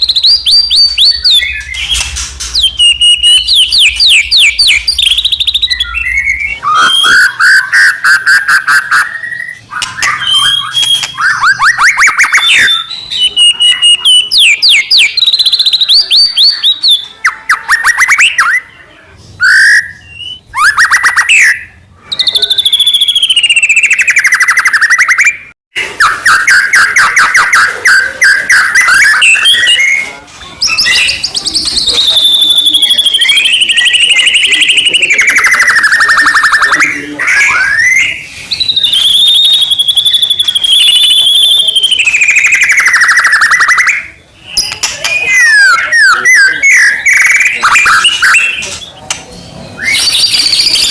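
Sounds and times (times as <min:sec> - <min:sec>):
songbird singing trills and whistles: 0:00.0 - 0:18.7, 0:19.4 - 0:50.9.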